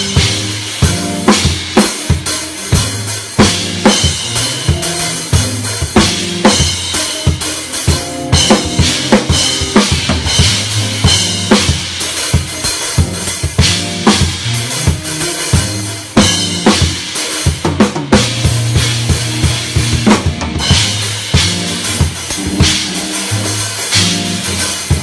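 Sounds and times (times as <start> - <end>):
band holding notes: 0.0 - 25.0
drum kit groove: 0.0 - 25.0.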